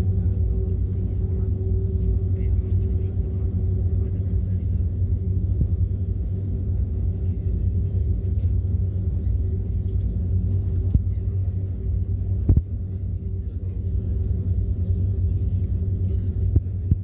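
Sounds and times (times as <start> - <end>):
airliner engines rumbling: 0.0 - 17.0.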